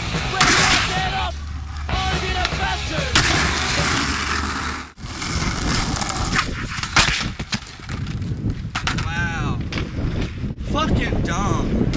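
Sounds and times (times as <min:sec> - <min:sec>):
skateboard wheels rolling on concrete: 0:00.0 - 0:10.7.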